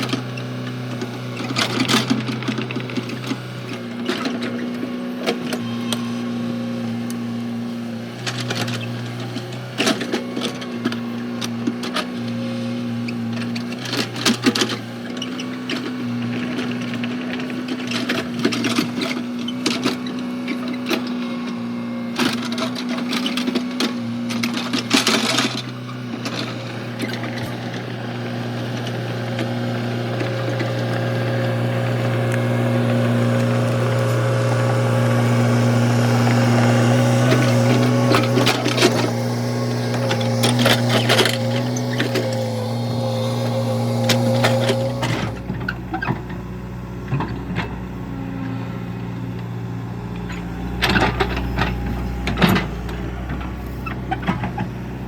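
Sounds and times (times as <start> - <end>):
excavator clattering and scraping: 0.0 - 55.0
excavator diesel engine running: 0.0 - 55.0.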